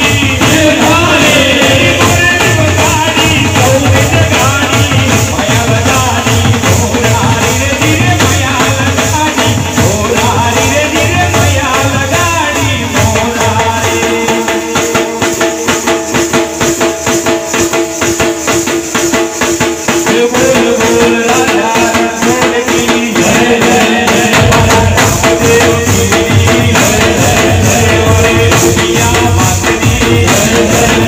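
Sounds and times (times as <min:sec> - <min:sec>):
dhol drums: 0:00.0 - 0:31.0
heavy low drum beat: 0:00.0 - 0:31.0
jingling percussion rhythm: 0:00.0 - 0:31.0.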